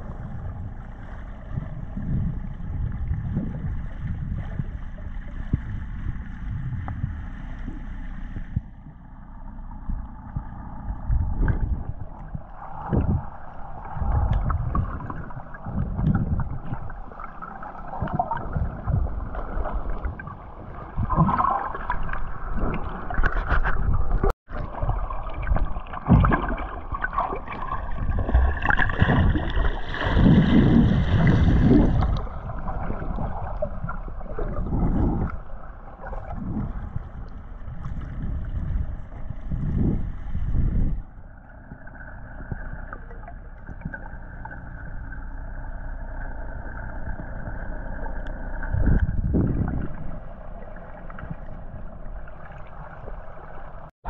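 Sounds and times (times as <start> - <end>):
muffled underwater water sloshing: 0.0 - 54.0.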